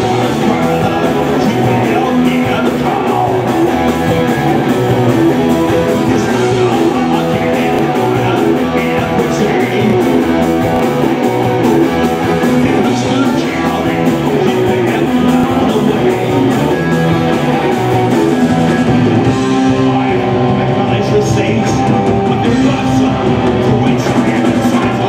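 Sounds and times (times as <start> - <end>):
man singing into a microphone: 0.0 - 3.7, 5.1 - 10.4, 12.4 - 25.0
bass guitar: 0.0 - 25.0
drums on a steady beat: 0.0 - 25.0
electric guitars: 0.0 - 25.0.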